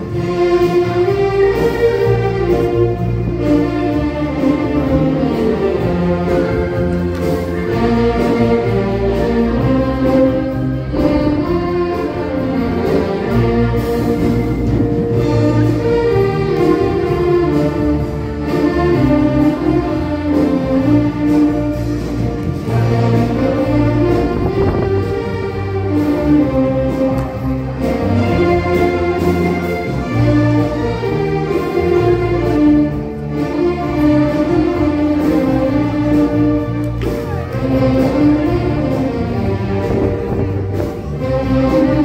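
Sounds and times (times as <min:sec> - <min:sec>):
band music: 0:00.0 - 0:42.0.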